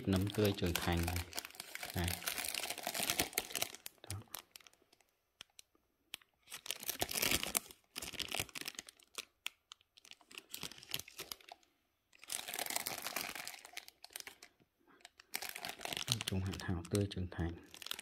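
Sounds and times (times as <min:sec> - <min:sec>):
plastic film crinkling: 0:00.0 - 0:18.0.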